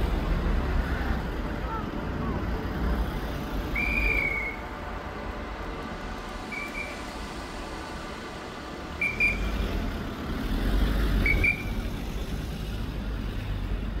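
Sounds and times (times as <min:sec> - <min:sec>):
plane engine drone overhead: 0:00.0 - 0:14.0.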